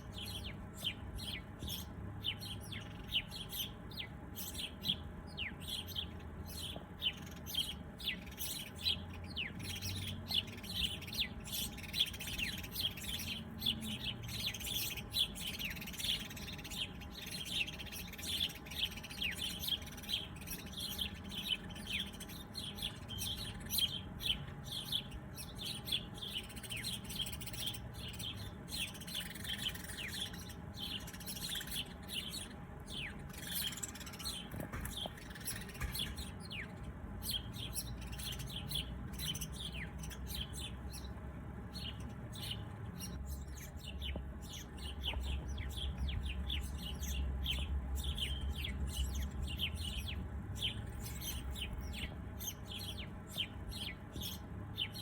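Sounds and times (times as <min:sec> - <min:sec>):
low background rumble: 0:00.0 - 0:55.0
small birds chirping: 0:00.0 - 0:55.0.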